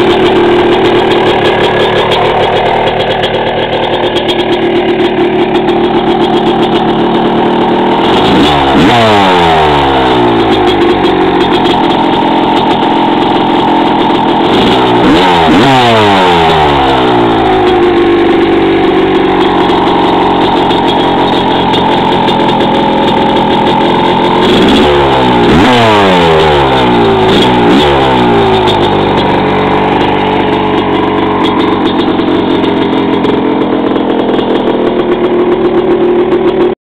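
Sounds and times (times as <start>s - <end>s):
two-stroke engine idling and revving: 0.0s - 36.8s.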